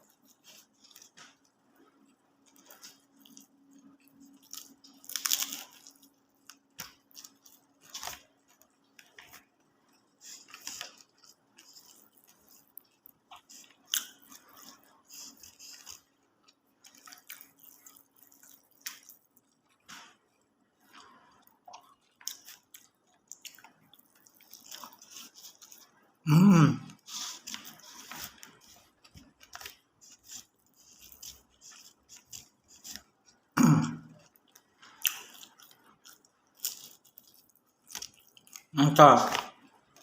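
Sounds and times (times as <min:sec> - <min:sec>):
person chewing food: 0:00.0 - 0:40.0.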